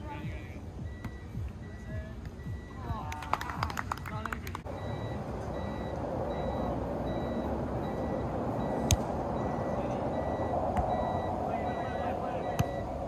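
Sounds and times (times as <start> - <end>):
reversing alarm beeping: 0.8 - 3.1, 4.7 - 13.0.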